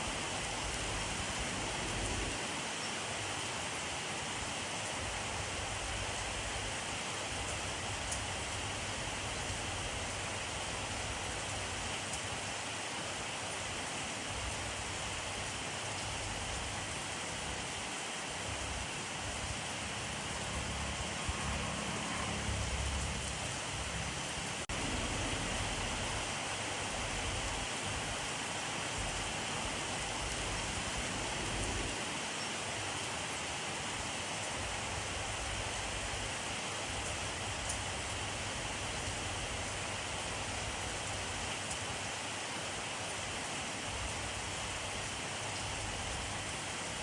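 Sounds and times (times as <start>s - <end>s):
steady rainfall: 0.0s - 47.0s.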